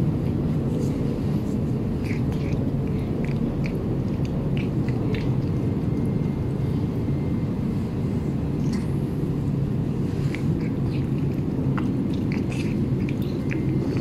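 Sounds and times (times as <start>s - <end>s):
steady low rumble: 0.0s - 14.0s
cat chewing wet food: 0.1s - 14.0s.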